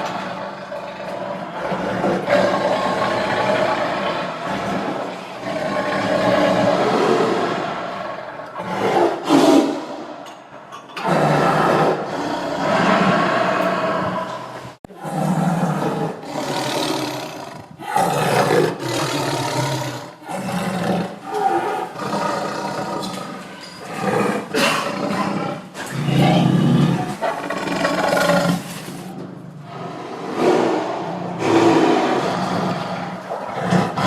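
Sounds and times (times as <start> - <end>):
tiger roaring: 0.0 - 10.2, 11.0 - 34.0.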